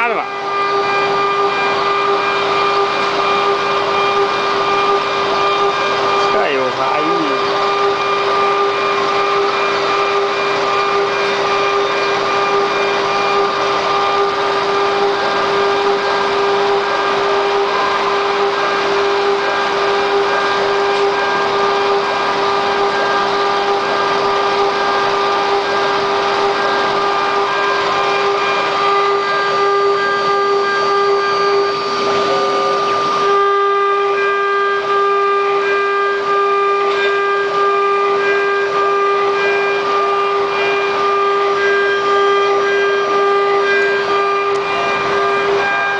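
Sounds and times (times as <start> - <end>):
constant mechanical noise: 0.0 - 45.9
router spindle whine: 0.0 - 45.9.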